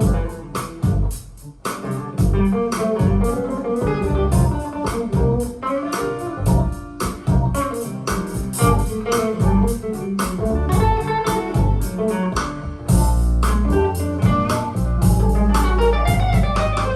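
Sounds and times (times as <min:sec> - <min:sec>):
steady low beat: 0:00.0 - 0:01.6, 0:02.2 - 0:05.6, 0:06.4 - 0:16.9
guitar: 0:00.0 - 0:16.9.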